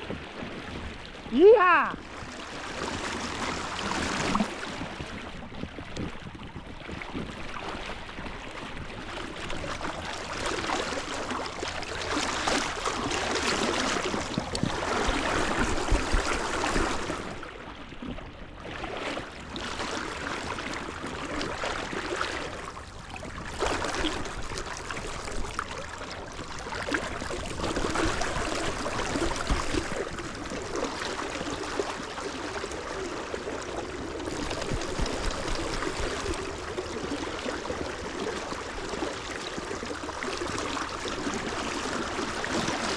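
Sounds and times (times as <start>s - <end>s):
river water flowing: 0.0s - 6.0s, 6.9s - 42.9s.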